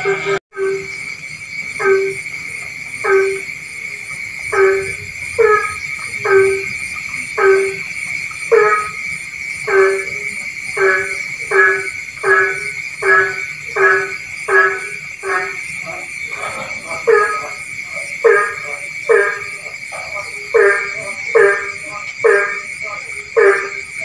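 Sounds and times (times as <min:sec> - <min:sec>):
high-pitched drone: 0:00.0 - 0:07.9, 0:08.5 - 0:24.0
frog calling: 0:00.0 - 0:24.0.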